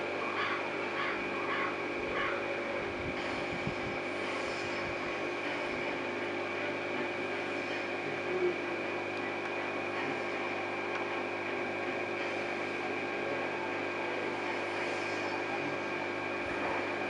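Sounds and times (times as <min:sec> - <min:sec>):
constant whining tones: 0:00.0 - 0:17.0
motor hum with hiss: 0:00.0 - 0:17.0.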